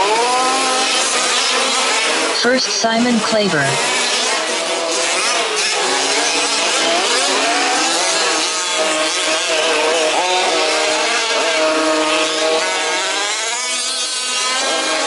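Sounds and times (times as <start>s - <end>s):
small two-stroke engines revving: 0.0s - 15.0s.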